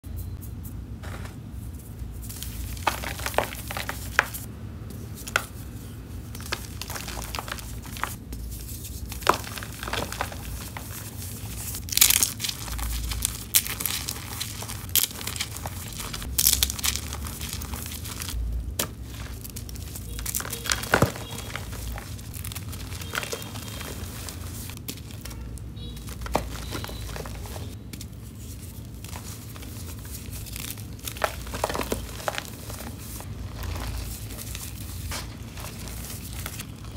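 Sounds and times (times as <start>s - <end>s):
hands crushing chalk and eggshells: 0.0s - 36.9s
soft powdery rustling: 0.1s - 36.9s.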